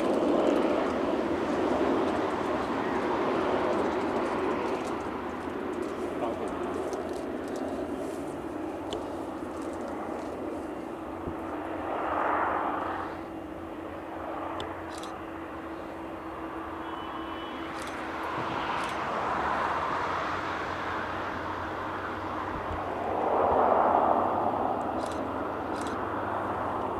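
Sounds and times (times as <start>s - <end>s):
propeller aircraft engine droning: 0.0s - 26.9s.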